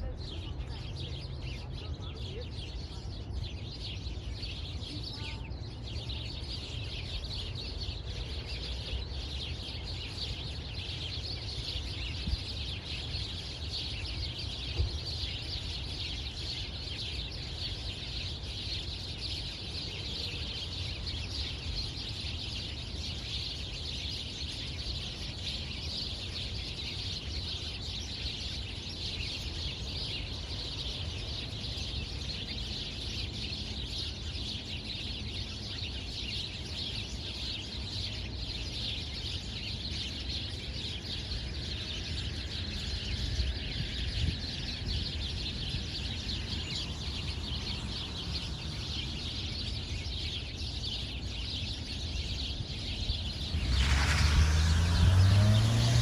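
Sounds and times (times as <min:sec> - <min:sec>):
flock of birds chirping: 0:00.0 - 0:56.0.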